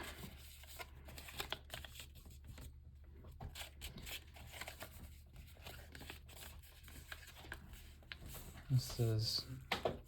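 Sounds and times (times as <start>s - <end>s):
paper rustling and crinkling: 0.0s - 9.2s.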